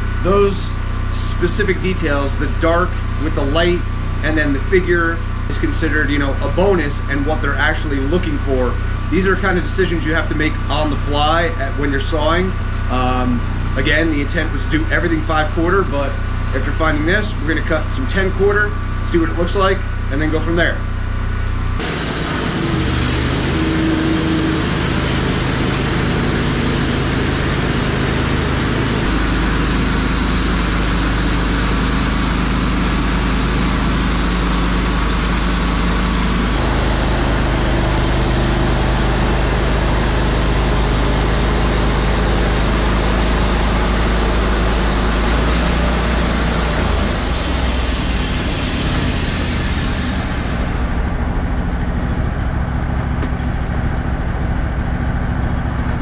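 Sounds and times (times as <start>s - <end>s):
bandsaw mill engine hum: 0.0s - 56.0s.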